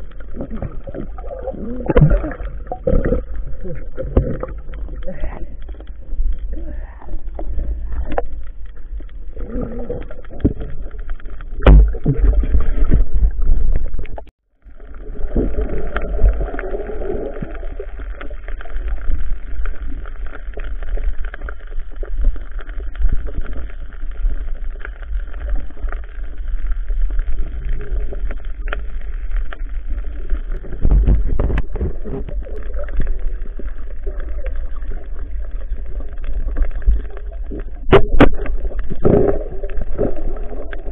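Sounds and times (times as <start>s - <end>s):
muffled underwater rumble: 0.0s - 40.9s.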